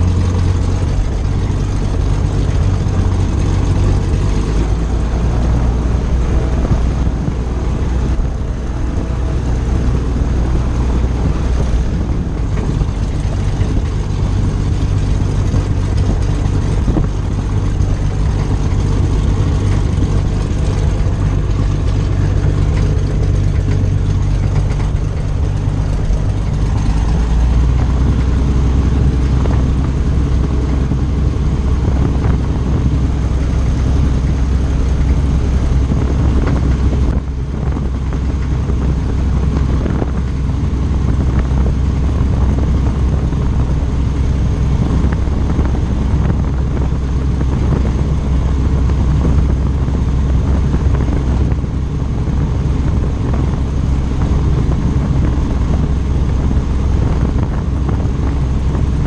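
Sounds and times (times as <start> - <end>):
piston engine drone: 0.0 - 59.0.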